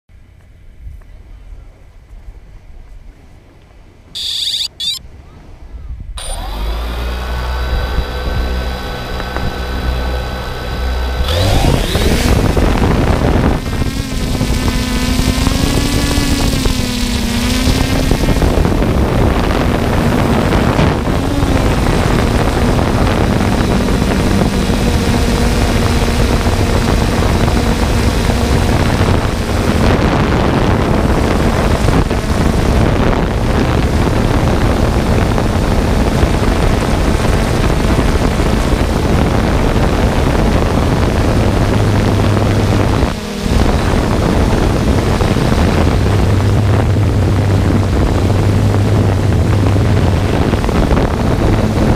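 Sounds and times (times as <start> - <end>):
drone propellers buzzing: 4.2 - 5.0, 6.2 - 51.9.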